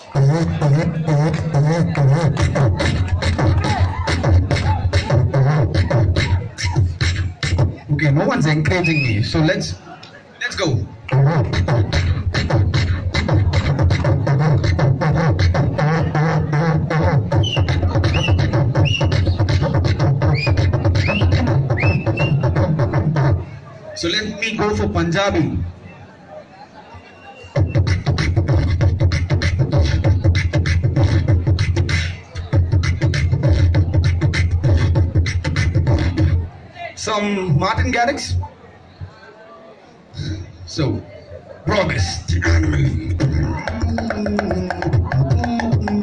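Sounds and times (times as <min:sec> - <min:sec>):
man beatboxing into microphone: 0:00.0 - 0:09.8, 0:10.5 - 0:25.6, 0:27.5 - 0:36.6, 0:40.1 - 0:41.0, 0:41.7 - 0:46.0.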